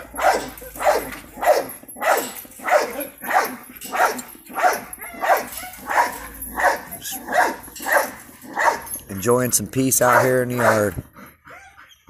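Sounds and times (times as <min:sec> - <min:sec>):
dog barking: 0:00.0 - 0:09.0, 0:10.1 - 0:11.0.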